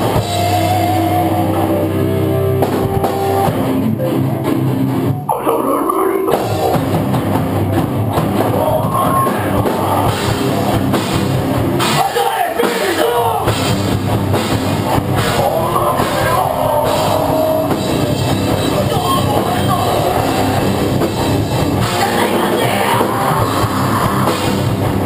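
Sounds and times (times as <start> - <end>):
metal band playing loud: 0.0 - 25.0.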